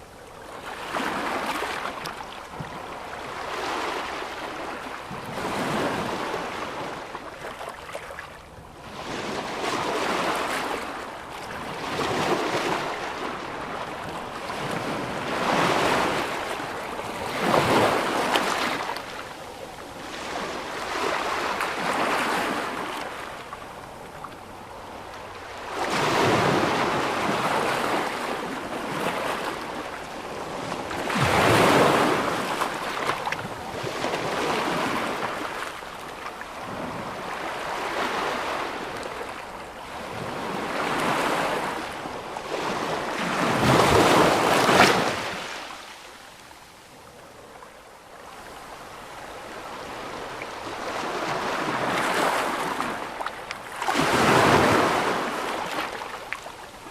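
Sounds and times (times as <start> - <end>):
sea waves breaking: 0.6 - 19.3, 25.3 - 46.1, 49.4 - 56.9.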